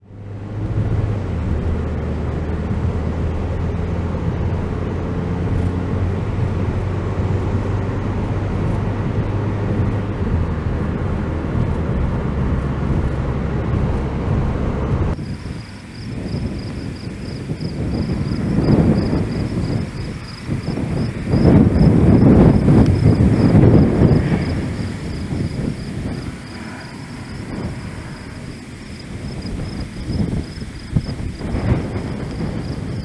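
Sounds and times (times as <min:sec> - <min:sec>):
car driving drone: 0:00.0 - 0:33.0.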